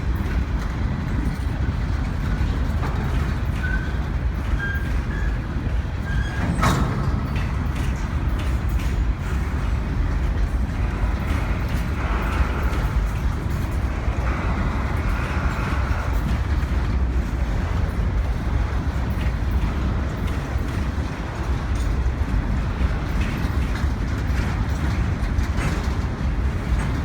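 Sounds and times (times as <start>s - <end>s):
train rumbling on rails: 0.0s - 27.0s
train wheel clicks: 0.0s - 27.0s.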